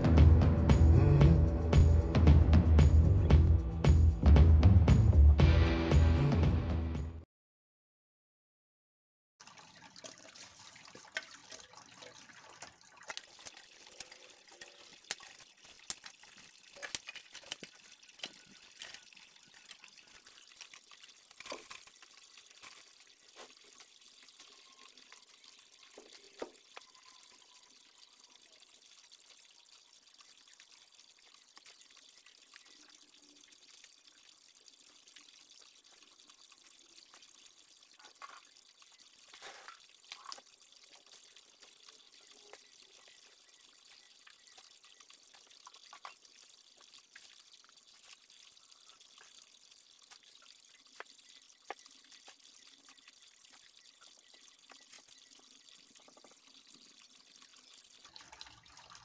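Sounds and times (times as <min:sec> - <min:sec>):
water trickling and dripping: 0:09.4 - 0:59.0.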